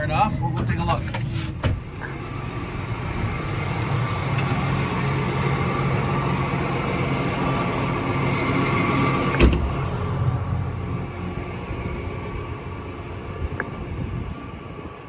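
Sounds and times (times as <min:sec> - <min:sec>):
tractor diesel engine idling: 0:01.8 - 0:15.0.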